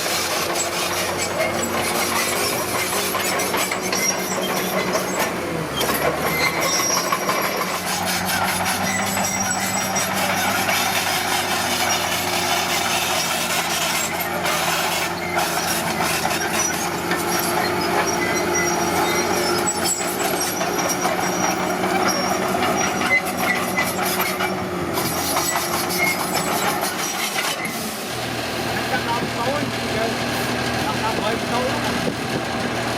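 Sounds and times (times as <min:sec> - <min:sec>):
high metallic squeals: 0:00.0 - 0:28.0
bulldozer engine running: 0:00.0 - 0:32.9
steel tracks clanking: 0:00.0 - 0:32.9.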